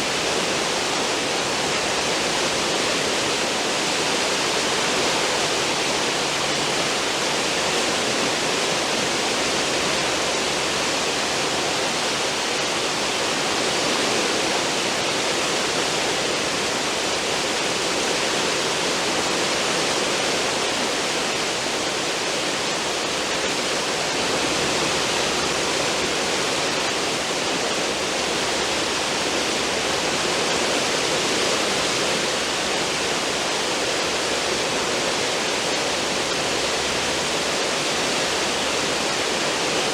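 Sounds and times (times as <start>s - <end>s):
churning foaming water: 0.0s - 39.9s.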